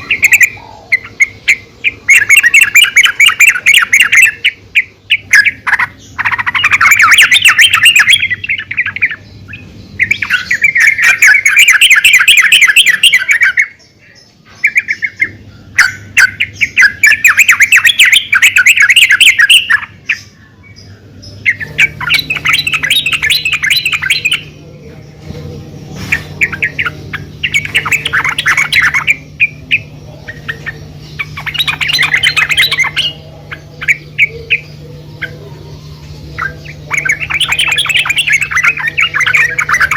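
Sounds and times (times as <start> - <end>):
bulbul chattering calls: 0.0 - 39.9.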